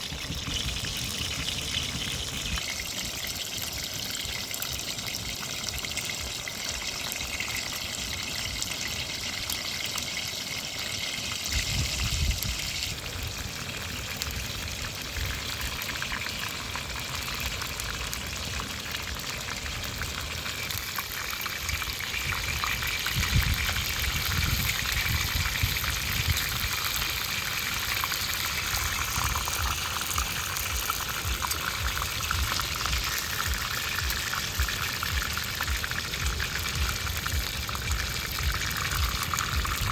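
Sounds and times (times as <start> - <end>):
fish sizzling in oil: 0.0 - 39.9.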